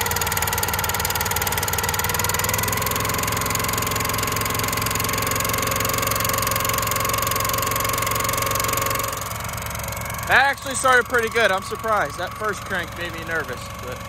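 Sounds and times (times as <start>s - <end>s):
small gasoline engine running: 0.0s - 14.0s.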